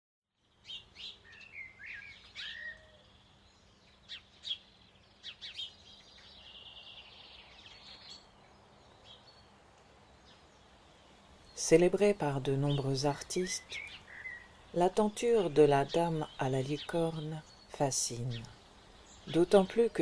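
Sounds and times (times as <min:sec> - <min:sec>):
birds chirping and calling: 0:00.5 - 0:20.0
bird trill: 0:00.6 - 0:09.5, 0:12.6 - 0:20.0.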